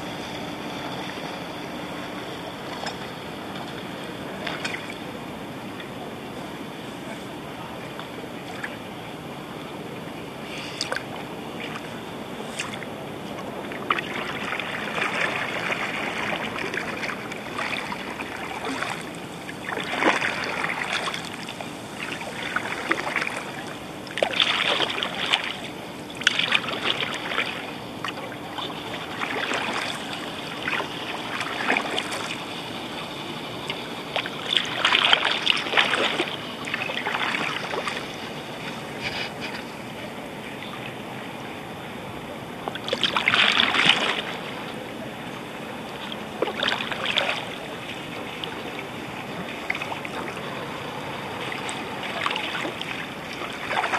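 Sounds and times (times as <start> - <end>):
kayak paddle splashing: 0.0 - 53.9.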